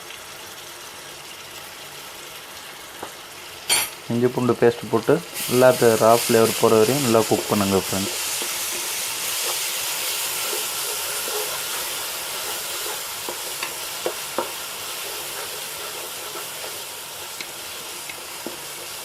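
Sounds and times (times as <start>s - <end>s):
onions frying in hot oil: 0.0s - 19.0s.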